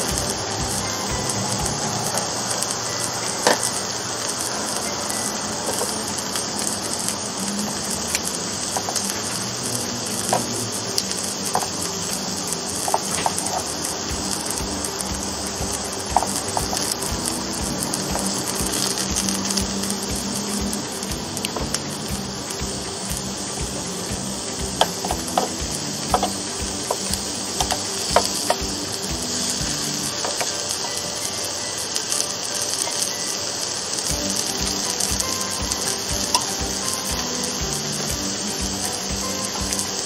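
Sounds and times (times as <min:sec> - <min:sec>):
vegetables sizzling on grill: 0:00.0 - 0:40.0.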